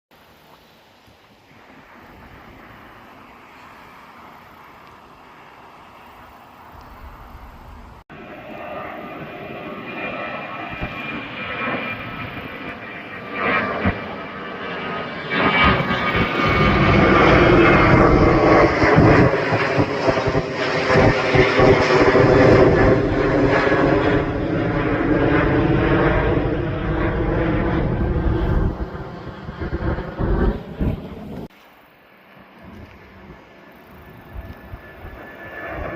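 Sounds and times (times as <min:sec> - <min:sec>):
jet engine whining: 0:01.5 - 0:35.9.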